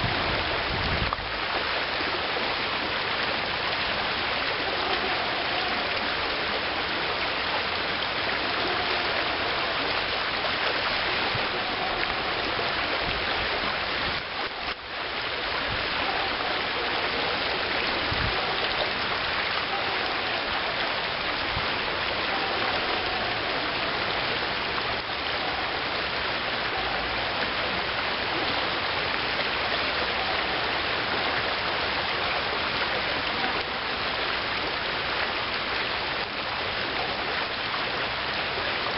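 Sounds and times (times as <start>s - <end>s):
river rushing over gravel: 0.0s - 38.9s.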